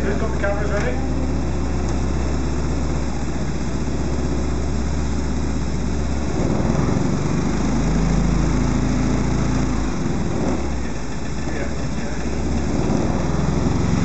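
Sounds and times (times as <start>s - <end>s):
four-cylinder car engine running: 0.0s - 14.0s.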